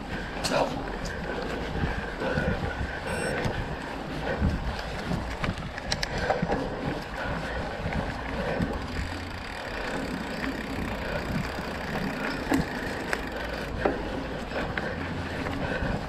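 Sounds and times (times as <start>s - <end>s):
bike rattling: 0.0s - 16.0s
bike tyres rumbling on dirt: 0.0s - 16.0s.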